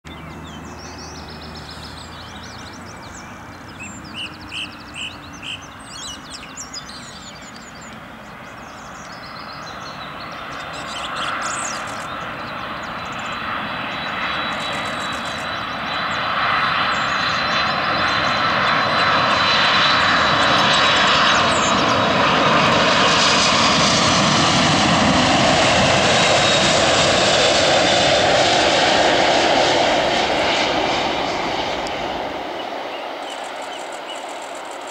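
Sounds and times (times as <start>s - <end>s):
jet airliner passing low: 0.1s - 34.9s.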